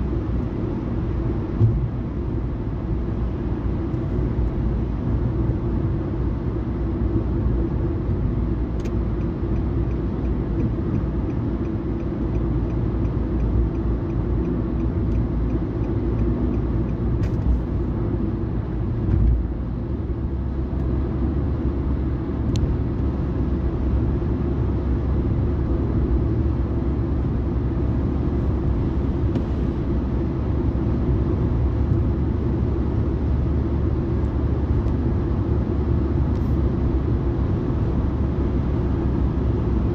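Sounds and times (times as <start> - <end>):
car cabin road rumble: 0.0 - 39.9.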